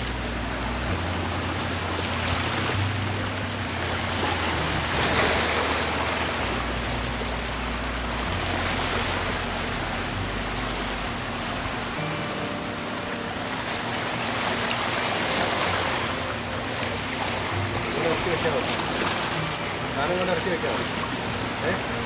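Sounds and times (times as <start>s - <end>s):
low drone: 0.0s - 22.0s
water rushing: 0.0s - 22.0s.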